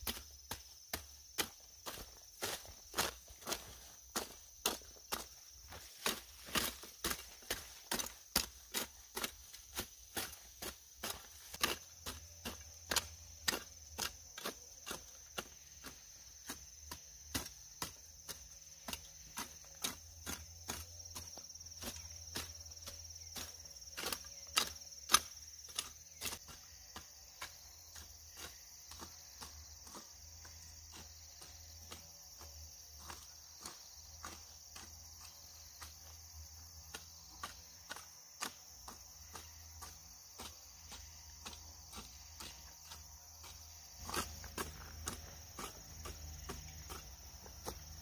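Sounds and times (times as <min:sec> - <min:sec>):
hand hoe chopping into soil: 0:00.0 - 0:48.0.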